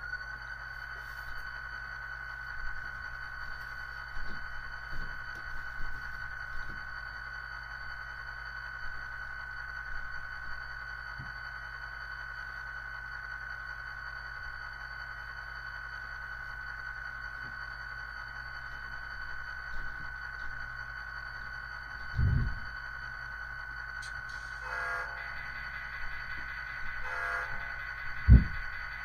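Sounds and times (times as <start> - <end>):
high-pitched whine: 0.0 - 29.0
low hum: 0.0 - 29.0.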